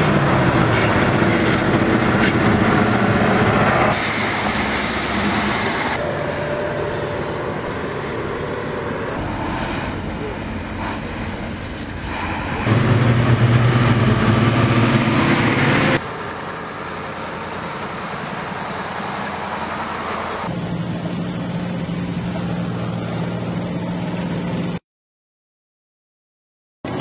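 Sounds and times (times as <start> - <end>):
military vehicle engines running: 0.0 - 24.8.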